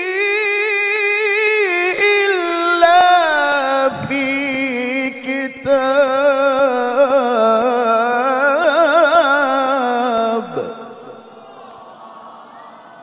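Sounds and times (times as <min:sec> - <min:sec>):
man reciting melodically: 0:00.0 - 0:11.4.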